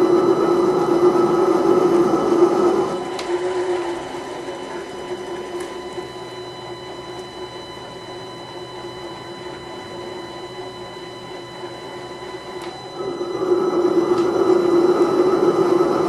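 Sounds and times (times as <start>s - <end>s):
lathe motor whine: 0.0s - 16.0s.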